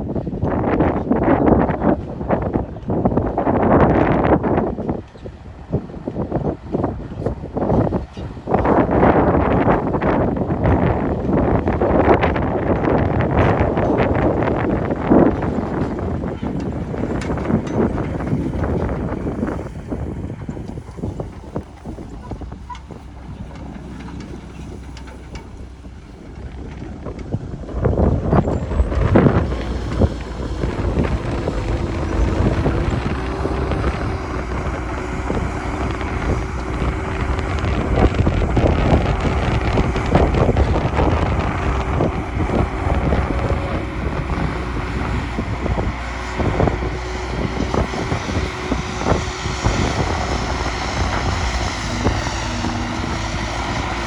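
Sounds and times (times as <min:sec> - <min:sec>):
diesel engines running: 0:00.0 - 0:54.0
machinery clanks and knocks: 0:01.9 - 0:54.0
steady machine whine: 0:05.7 - 0:54.0.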